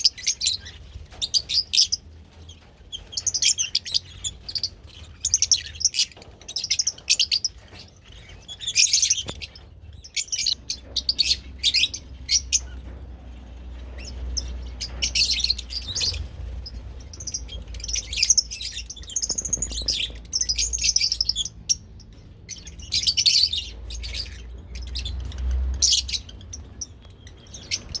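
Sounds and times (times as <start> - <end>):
lovebirds chirping: 0.0 - 28.0.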